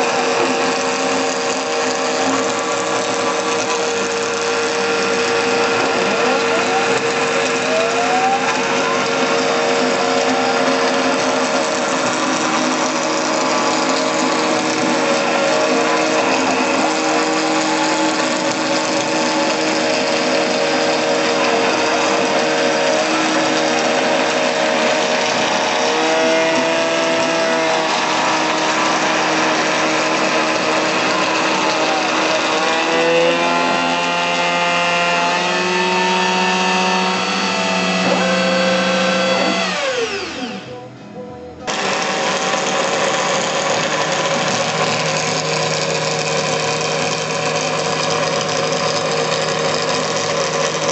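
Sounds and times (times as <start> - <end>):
router spindle running: 0.0 - 40.8, 41.7 - 50.9
stepper motors whining: 0.0 - 40.9, 41.7 - 50.9.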